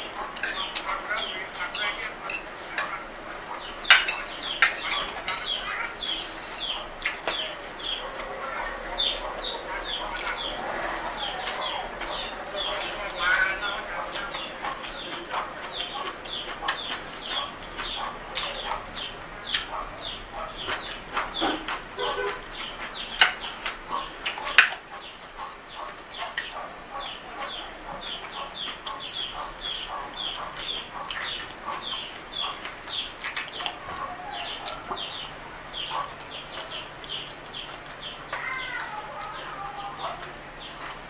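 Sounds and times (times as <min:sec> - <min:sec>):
chewing and lip-smacking: 0:00.0 - 0:41.0.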